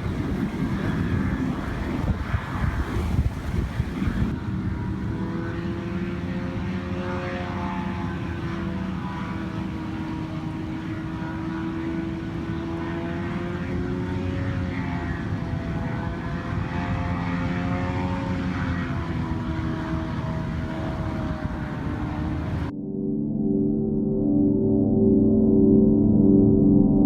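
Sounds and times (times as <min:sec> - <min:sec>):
wind rushing on microphone: 0:00.0 - 0:22.7
microlight engine droning: 0:00.0 - 0:27.0.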